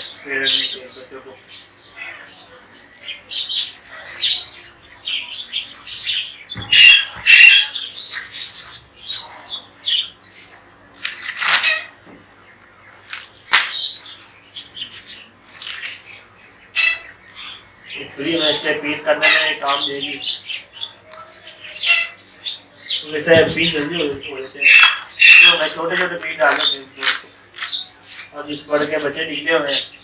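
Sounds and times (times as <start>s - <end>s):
parrots squawking and chirping: 0.0s - 12.0s, 12.6s - 30.0s.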